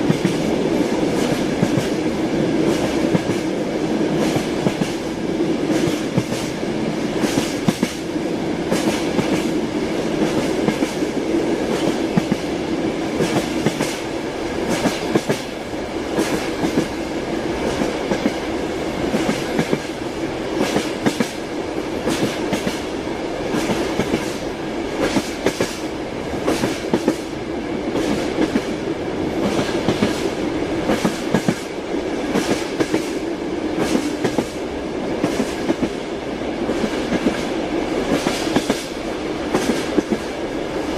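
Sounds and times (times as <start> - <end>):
steady train hum: 0.0 - 40.9
train wheels clattering over rails: 0.0 - 40.9.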